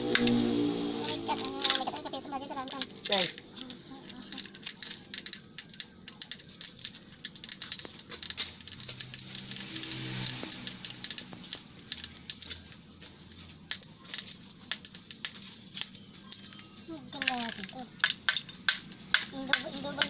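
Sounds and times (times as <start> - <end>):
small metal parts clicking: 0.0 - 0.6, 1.4 - 20.0.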